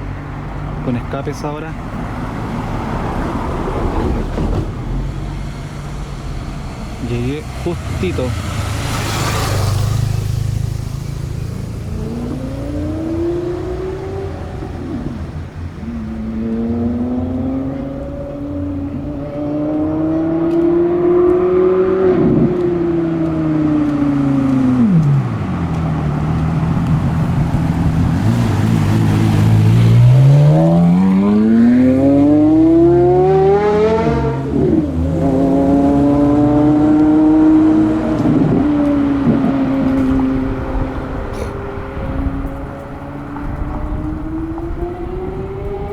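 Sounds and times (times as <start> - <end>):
sports car engine accelerating: 0.0 - 45.9.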